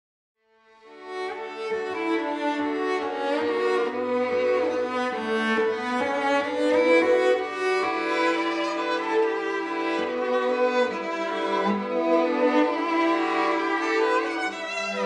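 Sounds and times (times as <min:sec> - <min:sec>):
cello: 0:00.4 - 0:15.0
violin melody: 0:00.7 - 0:15.0.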